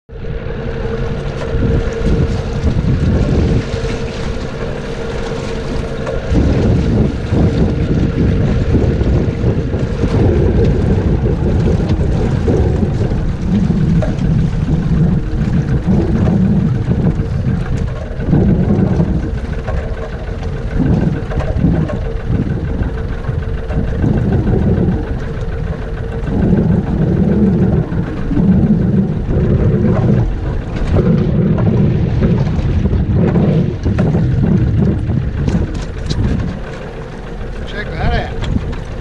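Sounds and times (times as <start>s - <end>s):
steady hum: 0.1s - 39.0s
wind buffeting microphone: 0.1s - 39.0s.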